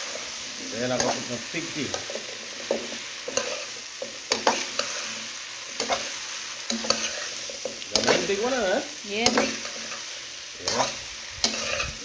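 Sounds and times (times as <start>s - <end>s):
food sizzling in hot oil: 0.0s - 12.0s
utensil scraping a pot: 0.0s - 12.0s.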